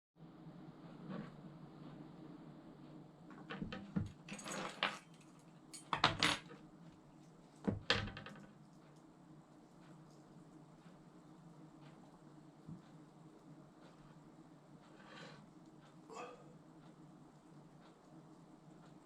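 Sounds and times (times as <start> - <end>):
steady low hum: 0.2 - 4.4, 5.2 - 19.0.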